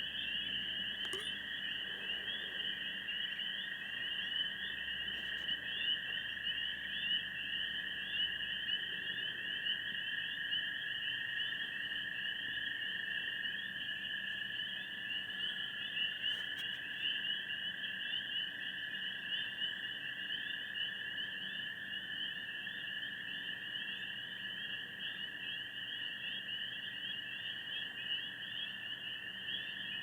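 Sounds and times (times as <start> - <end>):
night animals trilling: 0.0 - 30.0.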